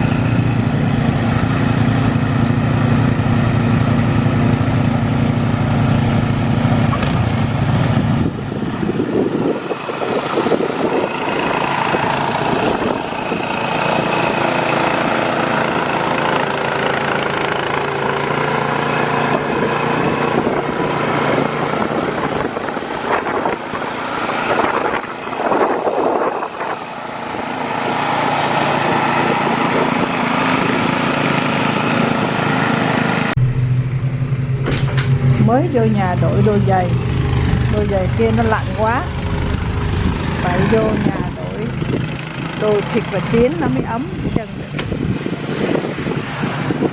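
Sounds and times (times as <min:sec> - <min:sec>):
snow blower engine running: 0:00.0 - 0:46.9.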